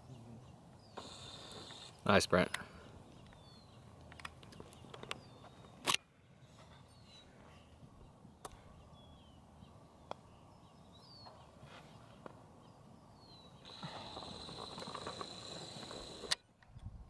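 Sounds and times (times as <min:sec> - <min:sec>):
small birds chirping: 0:00.0 - 0:16.4.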